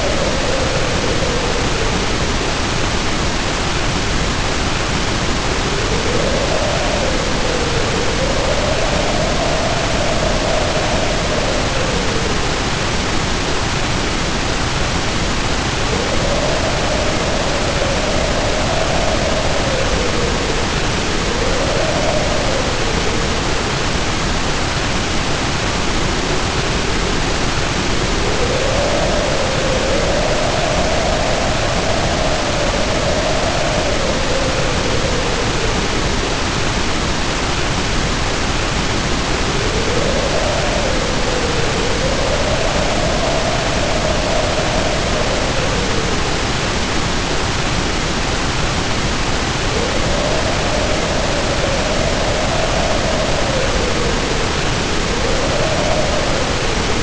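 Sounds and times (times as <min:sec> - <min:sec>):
heavy rain pouring: 0:00.0 - 0:57.0
wind howling: 0:00.0 - 0:57.0.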